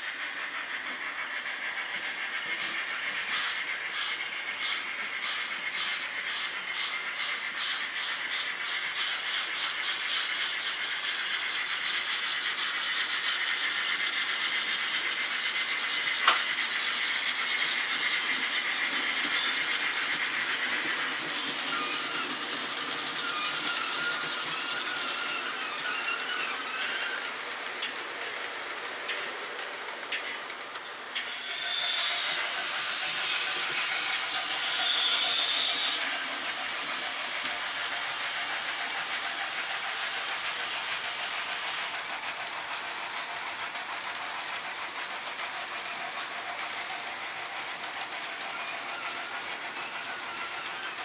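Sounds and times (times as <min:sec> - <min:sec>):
model train wheels rolling on track: 0:00.0 - 0:51.0.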